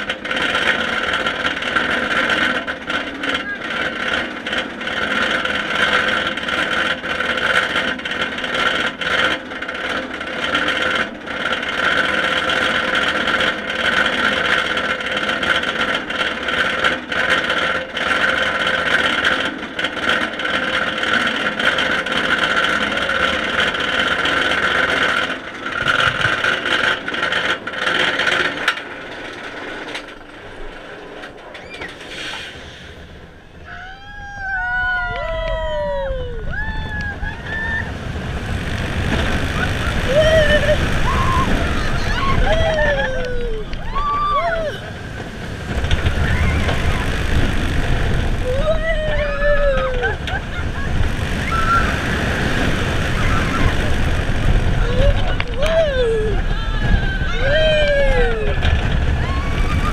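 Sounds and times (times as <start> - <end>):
roller coaster chain lift clatter: 0.0 - 59.9.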